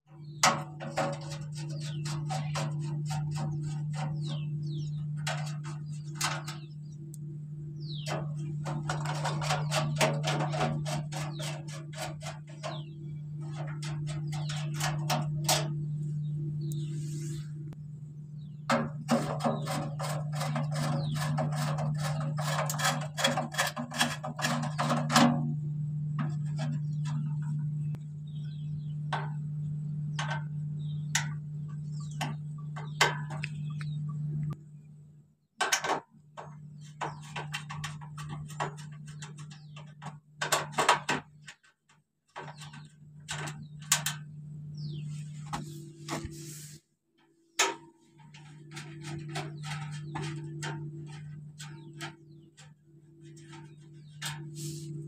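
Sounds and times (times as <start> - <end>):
steady low hum: 0.1 - 35.6, 42.4 - 55.0.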